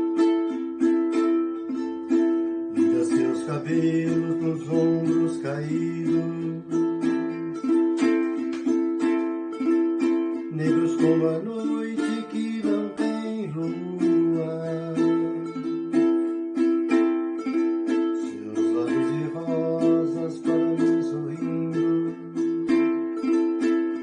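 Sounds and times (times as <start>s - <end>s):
ukulele strumming: 0.0s - 24.0s.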